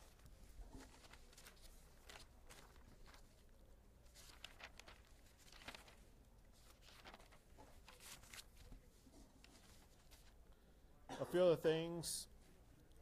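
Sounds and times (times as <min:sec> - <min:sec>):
faint clicks and rustles: 0:00.0 - 0:10.6.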